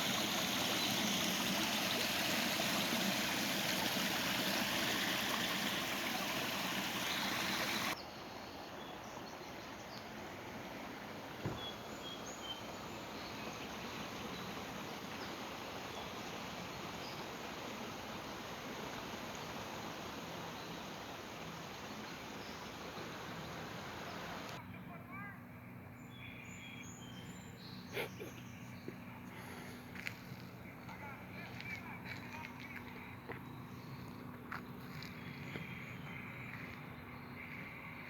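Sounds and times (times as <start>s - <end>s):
steady outdoor hiss: 0.0s - 38.0s.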